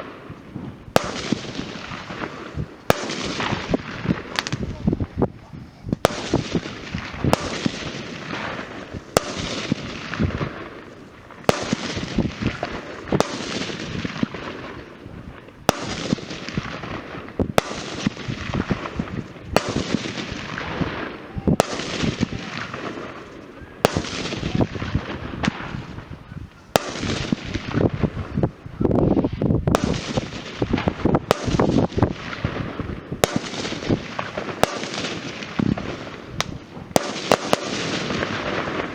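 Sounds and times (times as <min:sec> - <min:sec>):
firework bangs: 0:00.0 - 0:38.9
firework crackle and hiss: 0:00.0 - 0:38.9.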